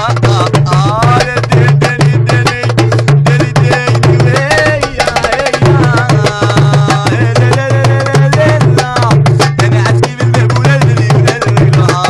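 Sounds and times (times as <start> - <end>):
hand drum quick rhythm: 0.0 - 12.0
man singing: 0.0 - 12.0.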